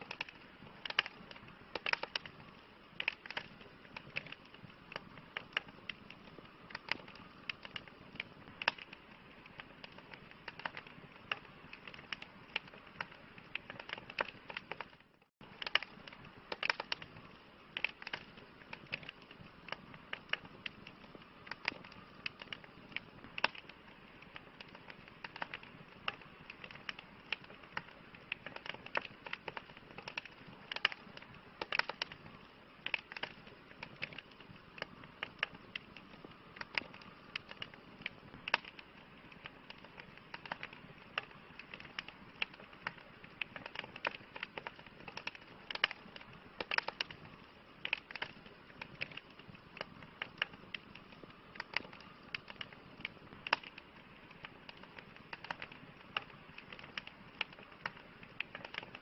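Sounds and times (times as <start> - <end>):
campfire crackling: 0.0 - 59.0
low hiss of burning: 0.0 - 59.0.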